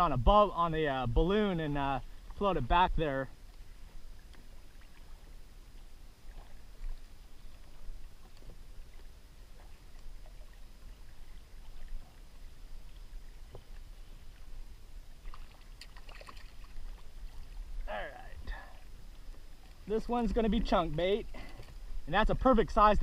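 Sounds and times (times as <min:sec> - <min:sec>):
breeze against microphone: 0:00.0 - 0:23.0
low rumble of water: 0:00.0 - 0:23.0.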